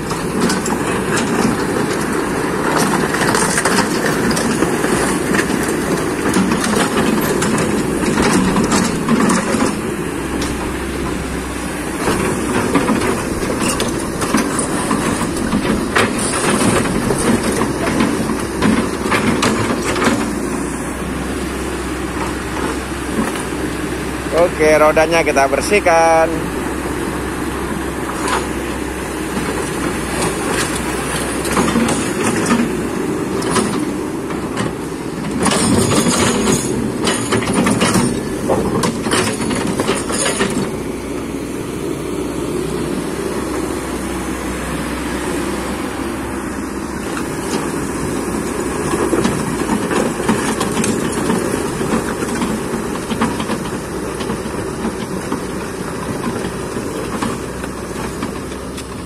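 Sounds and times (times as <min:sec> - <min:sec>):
excavator diesel engine running: 0:00.0 - 0:59.0
steel tracks clanking and rattling: 0:00.0 - 0:59.0.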